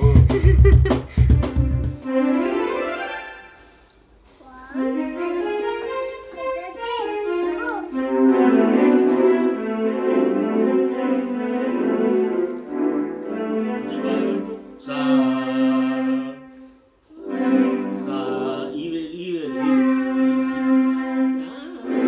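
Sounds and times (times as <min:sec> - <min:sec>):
electronic keyboard chords: 0:00.0 - 0:04.0, 0:04.8 - 0:14.6, 0:17.2 - 0:18.9, 0:19.5 - 0:22.0.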